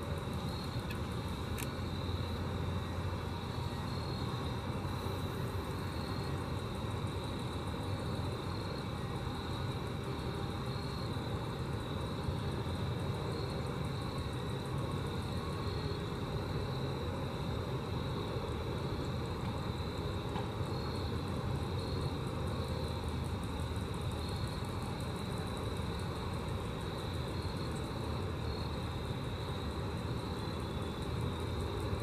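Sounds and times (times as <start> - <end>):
grasshoppers stridulating: 0.0 - 32.0.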